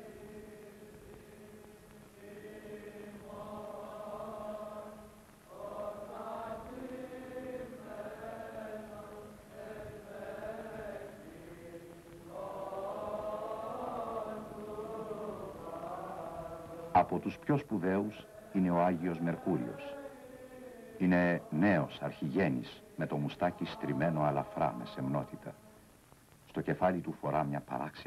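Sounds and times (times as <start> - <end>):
choir chanting slow melody: 0.0 - 25.9.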